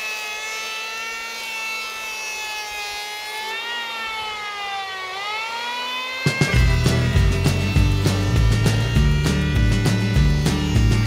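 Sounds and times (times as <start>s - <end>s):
electric hand planer cutting wood: 0.0s - 11.0s.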